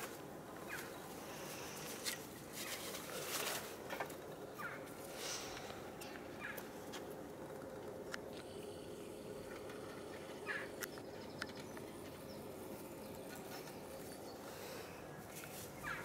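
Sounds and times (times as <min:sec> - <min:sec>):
low outdoor hum: 0:00.0 - 0:16.0.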